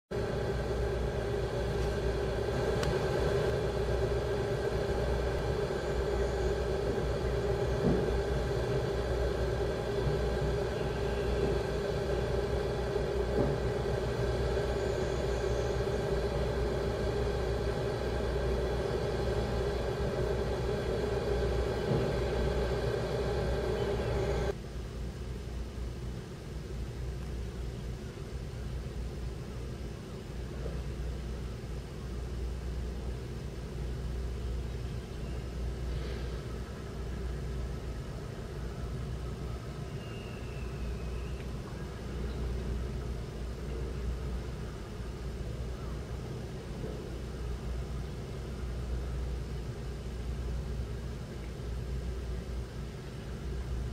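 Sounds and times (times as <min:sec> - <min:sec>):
heavy diesel engines running: 0:00.1 - 0:53.9.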